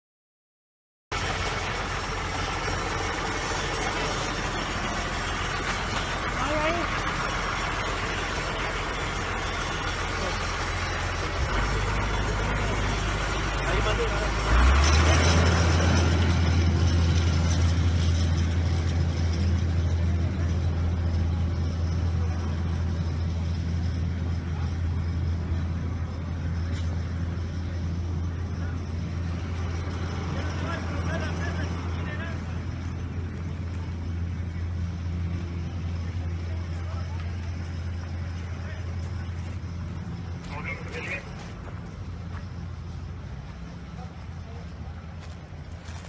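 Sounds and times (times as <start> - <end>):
fire truck engine running: 1.1 - 46.0.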